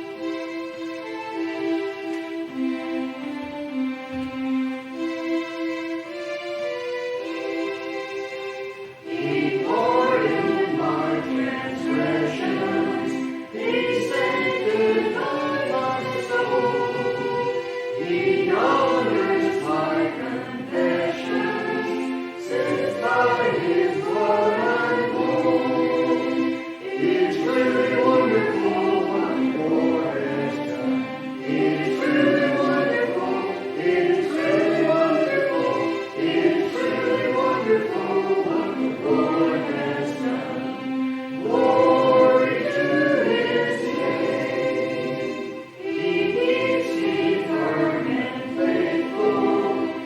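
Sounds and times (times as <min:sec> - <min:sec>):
congregation singing a hymn: 0:00.0 - 0:06.2, 0:08.8 - 0:50.0.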